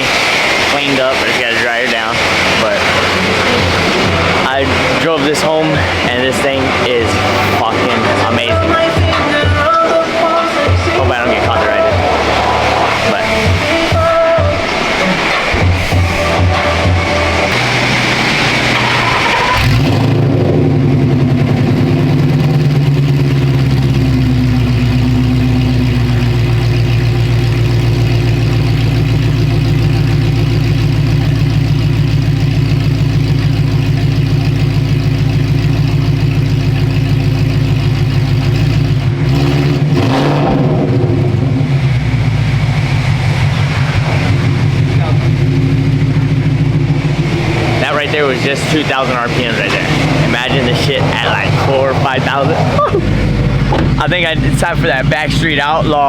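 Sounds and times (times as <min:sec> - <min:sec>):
loud car engine deep note: 0:00.0 - 0:56.0.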